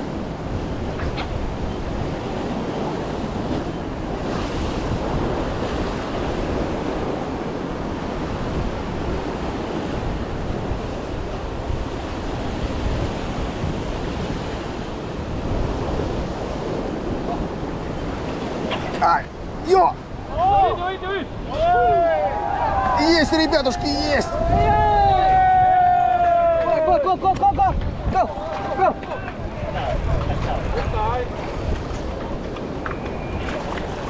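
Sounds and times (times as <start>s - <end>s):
surf breaking over rocks: 0.0s - 34.0s
wind noise on microphone: 0.0s - 34.0s.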